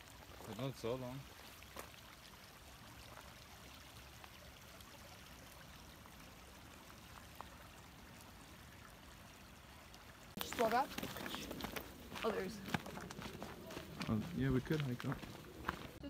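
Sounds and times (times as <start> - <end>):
water flowing in stone channel: 0.0 - 16.0.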